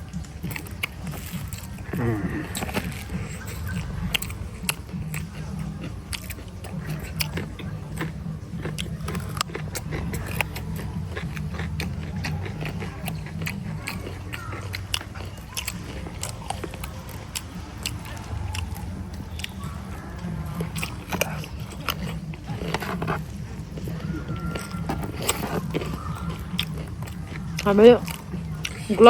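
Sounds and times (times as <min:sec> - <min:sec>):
person chewing food: 0:00.0 - 0:29.0
wet mouth clicks and crunches: 0:00.0 - 0:29.0.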